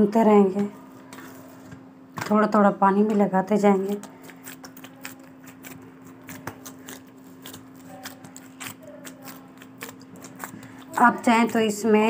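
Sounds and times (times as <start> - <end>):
dough squelching in metal bowl: 0.5 - 12.0.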